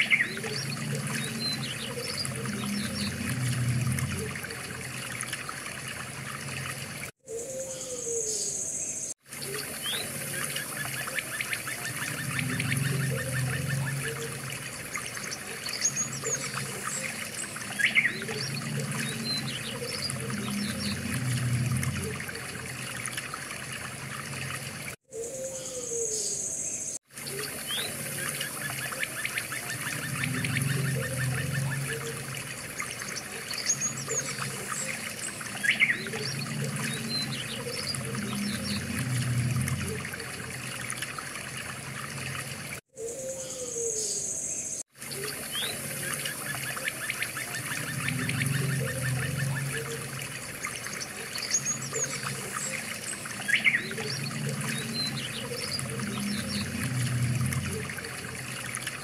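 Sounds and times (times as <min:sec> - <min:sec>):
trickling water: 0:00.0 - 0:59.0.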